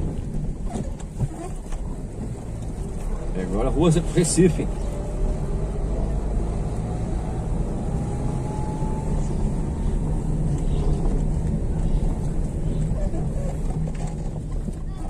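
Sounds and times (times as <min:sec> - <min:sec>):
faint engine whine: 0:00.0 - 0:15.0
vehicle engine and road rumble: 0:00.0 - 0:15.0.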